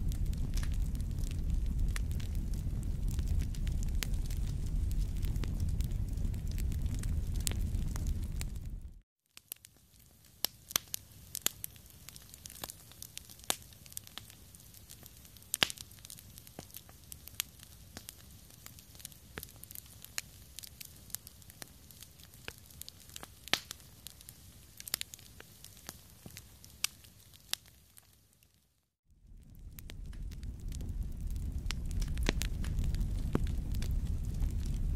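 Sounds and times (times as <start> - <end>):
rumbling fire: 0.0 - 28.1, 29.1 - 34.9
wood fire crackling and popping: 0.0 - 28.4, 29.2 - 34.9.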